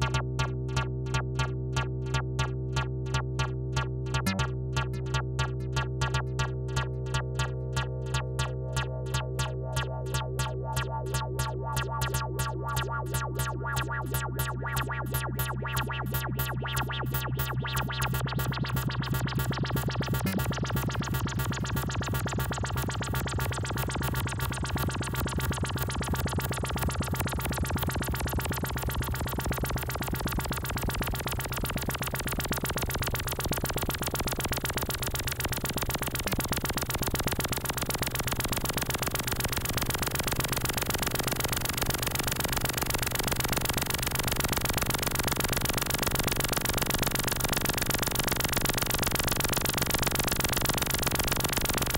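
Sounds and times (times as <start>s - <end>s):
synthesizer bassline: 0.0s - 51.9s.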